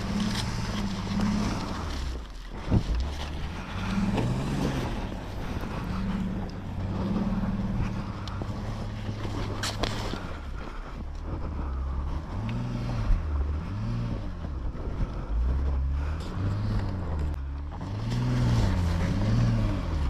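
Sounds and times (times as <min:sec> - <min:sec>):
vehicle engine revving under load: 0:00.0 - 0:20.0.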